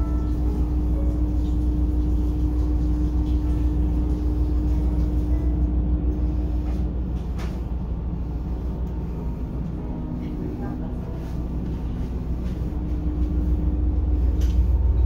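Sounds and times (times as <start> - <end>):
diesel railcar engine idling: 0.0 - 15.0
steady hum: 0.0 - 15.0.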